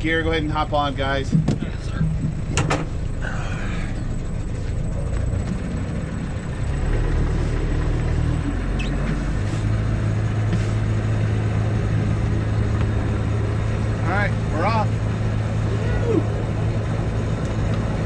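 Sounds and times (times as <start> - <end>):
diesel boat engine droning: 0.0 - 18.0.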